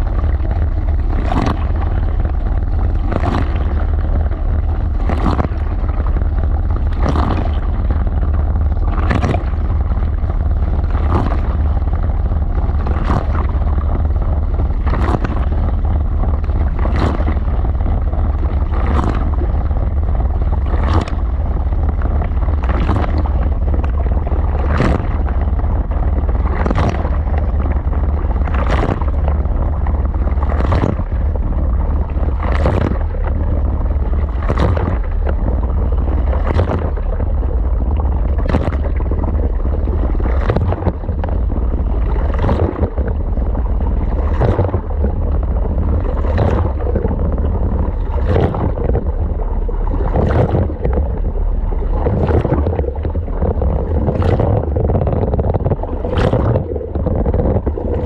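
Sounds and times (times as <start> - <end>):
tumbling load splash or knock: 0.0 - 58.0
washing machine deep rumble: 0.0 - 58.0
water churning and sloshing: 0.0 - 58.0.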